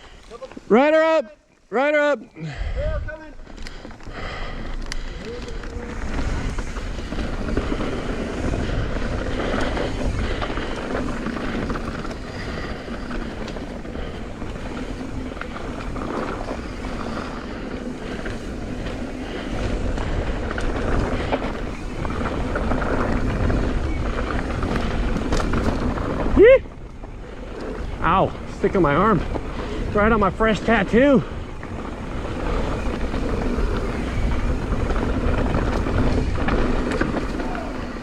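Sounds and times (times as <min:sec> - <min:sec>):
bike rattling: 0:02.5 - 0:38.0
wind buffeting microphone: 0:02.5 - 0:38.0
tyre noise on dirt: 0:02.8 - 0:38.0.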